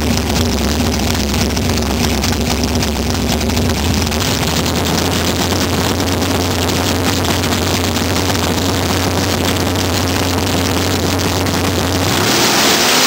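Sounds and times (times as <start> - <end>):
dragster engine idling: 0.0 - 13.0.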